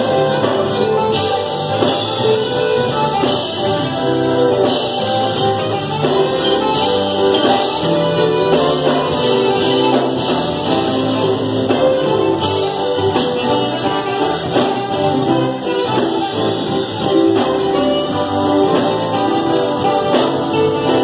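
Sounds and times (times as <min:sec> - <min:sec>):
keyboard and bass accompaniment: 0:00.0 - 0:21.0
saxophone melody: 0:00.0 - 0:21.0.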